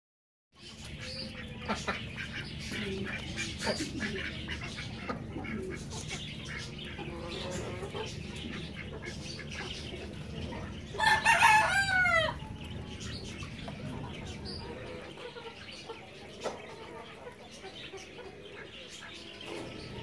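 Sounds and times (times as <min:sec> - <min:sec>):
low background hum: 0:00.6 - 0:20.0.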